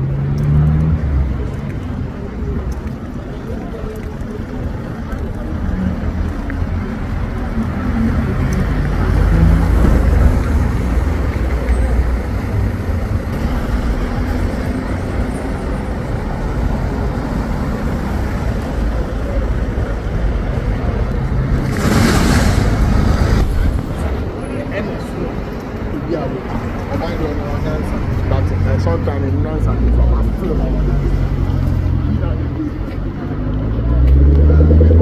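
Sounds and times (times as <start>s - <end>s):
car and bus engines rumbling: 0.0s - 35.0s
tyre noise of passing vehicles: 0.0s - 35.0s.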